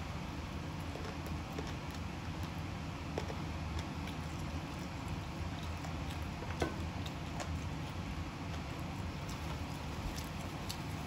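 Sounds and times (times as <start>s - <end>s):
steady low hum: 0.0s - 11.0s
chewing and mouth clicks: 0.7s - 11.0s.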